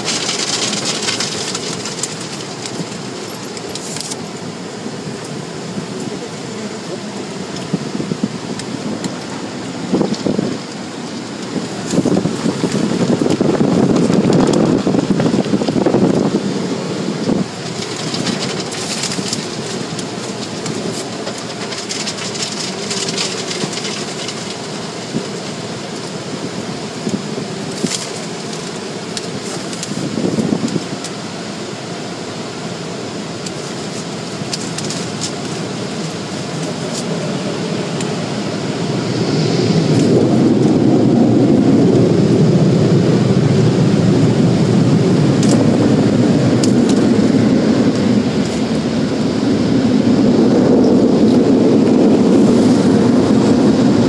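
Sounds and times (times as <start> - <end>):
car wash water spray: 0.0 - 54.0.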